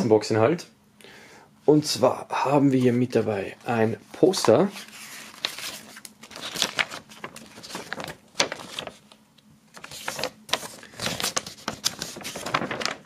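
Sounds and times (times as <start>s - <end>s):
paper poster rustling and crinkling: 1.9s - 13.0s.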